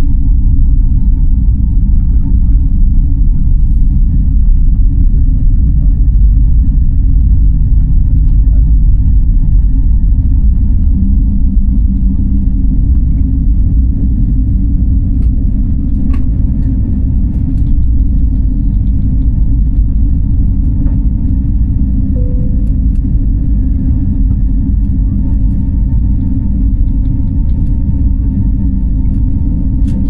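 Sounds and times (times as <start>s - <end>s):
jet engine cabin rumble: 0.0s - 30.0s.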